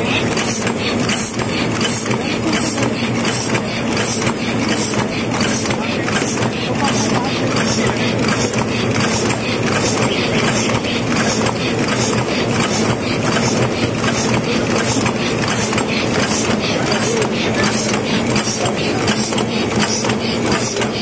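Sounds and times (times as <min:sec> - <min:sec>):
machine clattering: 0:00.0 - 0:21.0
motor hum: 0:00.0 - 0:21.0.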